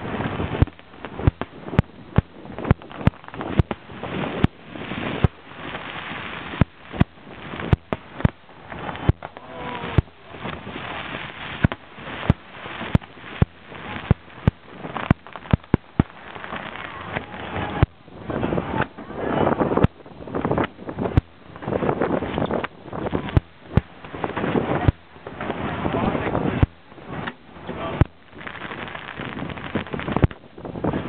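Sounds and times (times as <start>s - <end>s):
fireworks bursting with bangs: 0.0s - 31.0s
fireworks hissing: 0.0s - 31.0s.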